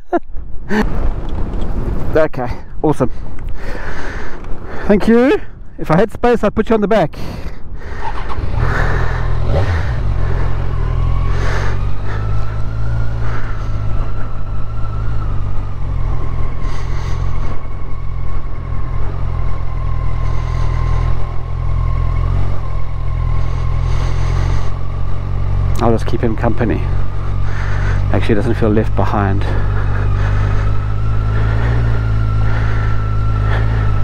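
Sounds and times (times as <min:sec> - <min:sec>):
motorcycle engine drone: 0:00.0 - 0:06.0, 0:07.2 - 0:34.0.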